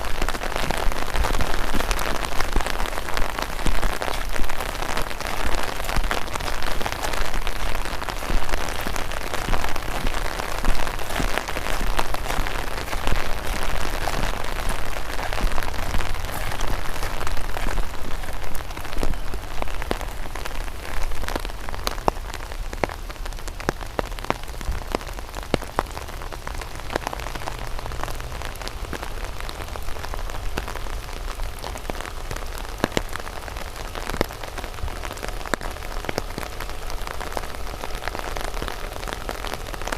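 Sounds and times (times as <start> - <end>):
light rain hissing: 0.0 - 39.9
raindrops ticking sharply: 0.0 - 39.9.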